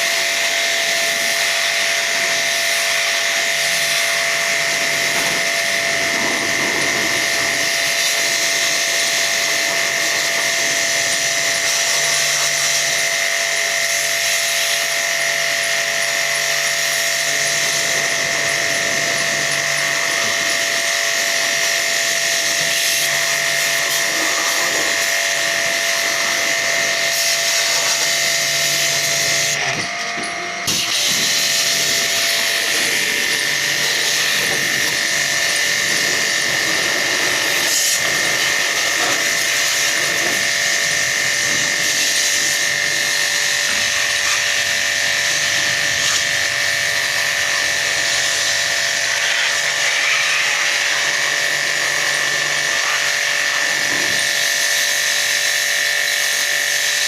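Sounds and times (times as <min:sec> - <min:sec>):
small electric motor whining: 0:00.0 - 0:57.0.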